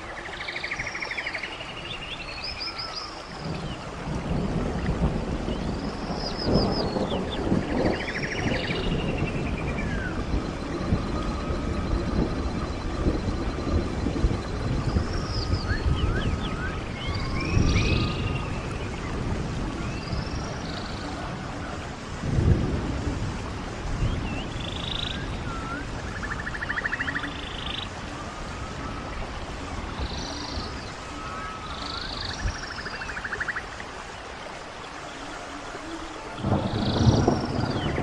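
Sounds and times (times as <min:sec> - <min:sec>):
stream water running: 0:00.0 - 0:38.0.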